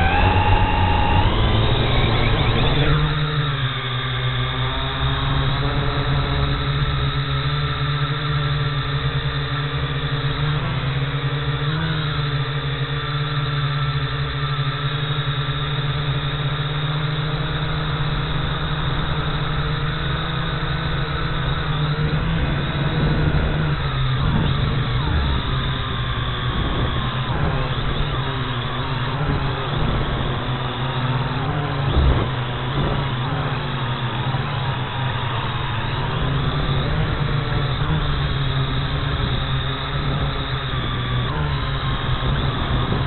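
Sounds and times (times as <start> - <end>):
drone propellers whining: 0.0 - 43.0.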